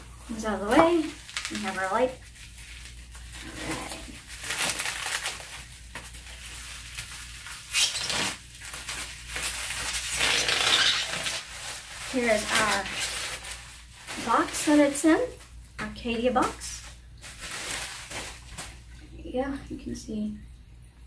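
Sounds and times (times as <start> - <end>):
bubble wrap rustling and crinkling: 0.0 - 19.0.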